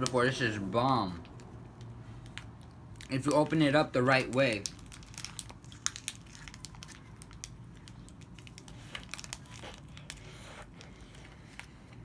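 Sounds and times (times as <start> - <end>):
candy wrapper crinkling: 1.1 - 11.8.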